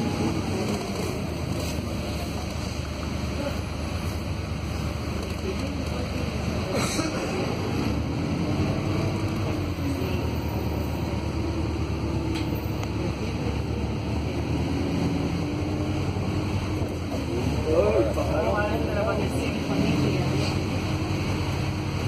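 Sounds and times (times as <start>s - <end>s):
bus drivetrain and tyre noise: 0.0s - 22.0s.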